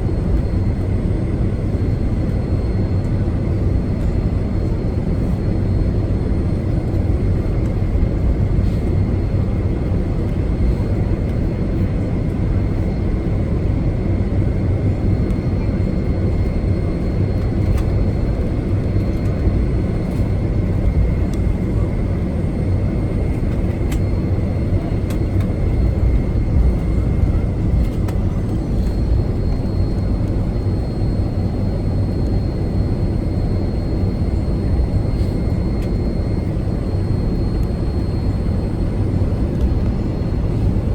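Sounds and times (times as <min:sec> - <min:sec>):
jet engine low rumble: 0:00.0 - 0:40.9.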